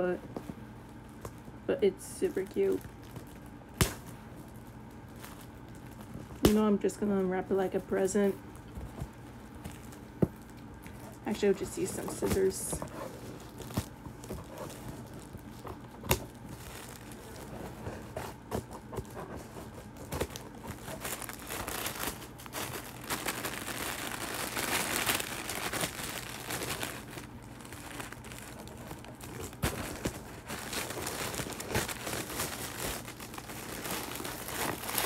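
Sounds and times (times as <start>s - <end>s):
tissue paper crinkling and tearing: 2.3s - 6.6s, 8.8s - 35.0s.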